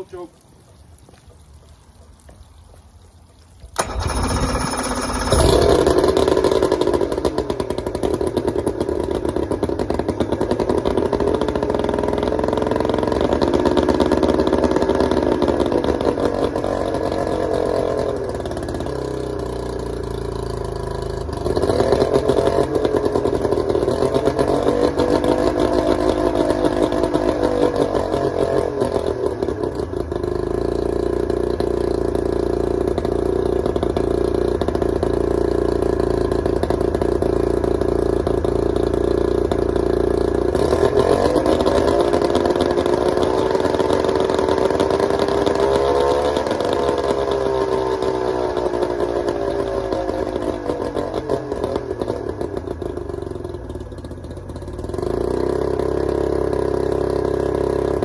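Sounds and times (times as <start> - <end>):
outboard motor running: 3.8 - 58.0.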